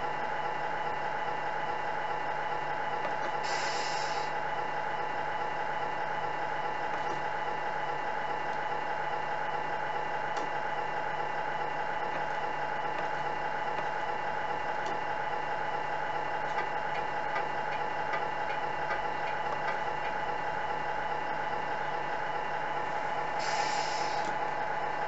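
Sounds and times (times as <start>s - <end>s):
simulated diesel engine idling: 0.0s - 25.0s.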